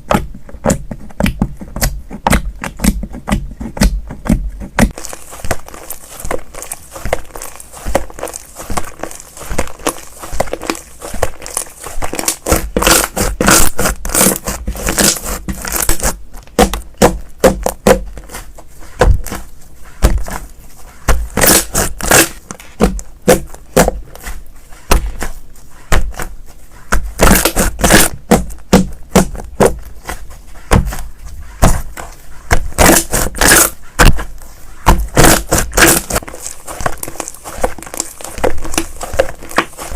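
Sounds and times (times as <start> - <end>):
slime clicking and crackling: 0.0 - 20.4, 21.0 - 31.0, 31.6 - 39.9.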